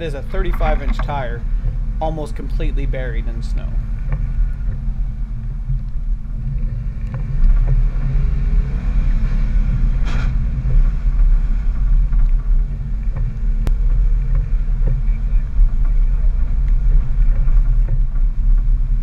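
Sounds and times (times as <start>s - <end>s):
pickup engine rumbling under load: 0.0s - 19.0s.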